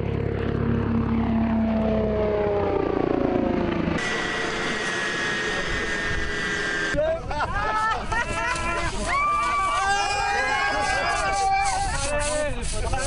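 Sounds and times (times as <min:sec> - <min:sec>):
helicopter passing low: 0:00.0 - 0:11.4
high turbine whine: 0:00.0 - 0:11.6
helicopter rotors turning: 0:00.0 - 0:13.0.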